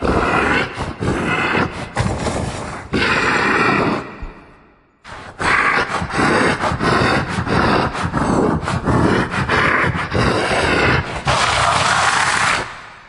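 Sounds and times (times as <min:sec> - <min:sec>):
monster growling: 0:00.0 - 0:04.2, 0:05.1 - 0:12.8.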